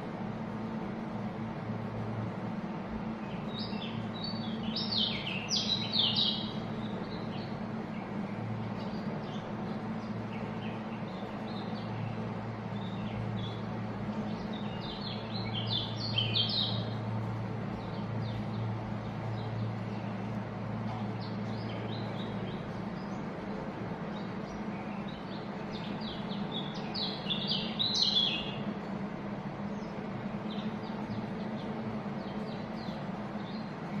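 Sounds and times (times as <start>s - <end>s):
flock of birds chirping: 0.0s - 34.0s.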